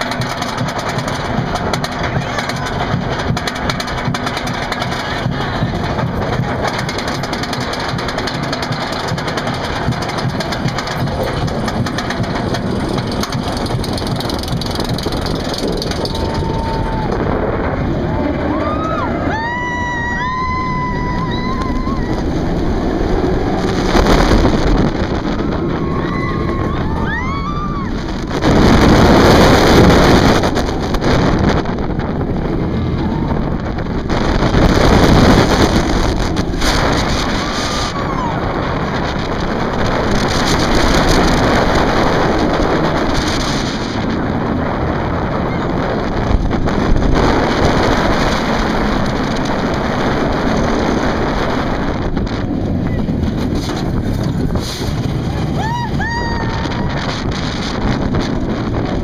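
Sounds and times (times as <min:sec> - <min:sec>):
roller coaster rumbling on track: 0:00.0 - 0:59.0
wind buffeting microphone: 0:00.0 - 0:59.0.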